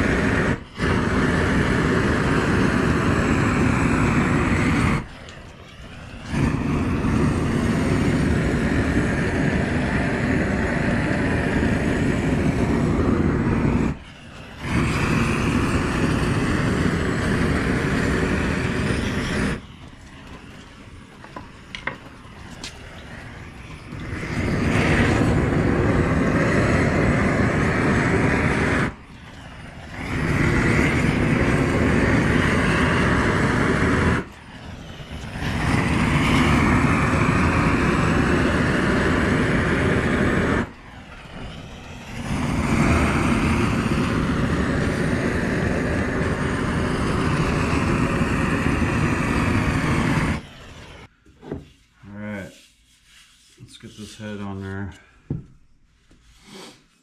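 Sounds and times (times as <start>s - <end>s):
propane torch flame blasting: 0.0s - 51.6s, 56.4s - 57.0s.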